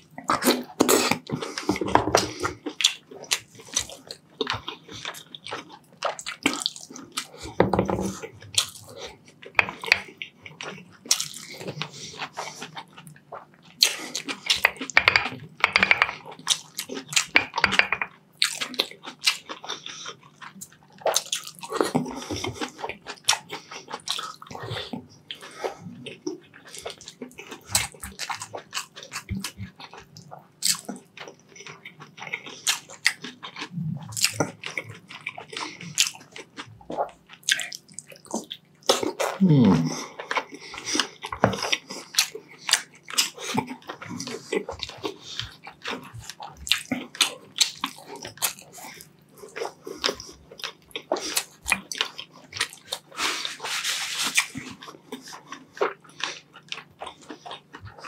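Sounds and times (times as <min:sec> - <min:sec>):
chewing with lip smacks: 0:00.0 - 0:58.0.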